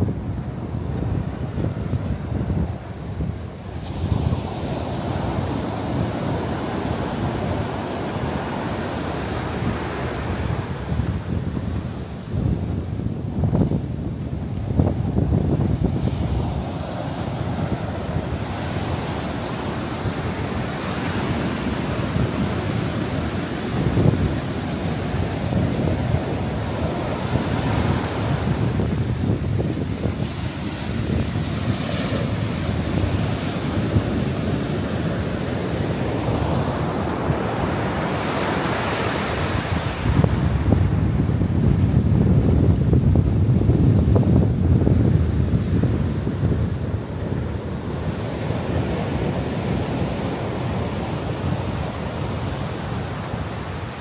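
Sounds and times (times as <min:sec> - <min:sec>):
wind buffeting microphone: 0:00.0 - 0:54.0
ocean surf breaking: 0:01.0 - 0:54.0.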